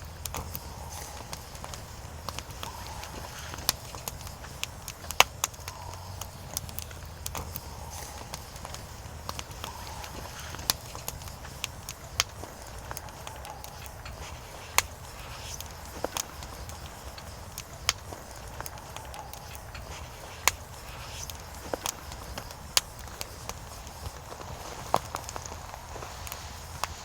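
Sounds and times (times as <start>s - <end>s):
firewood crackling and popping: 0.0s - 27.0s
low steady rumble: 0.0s - 27.0s.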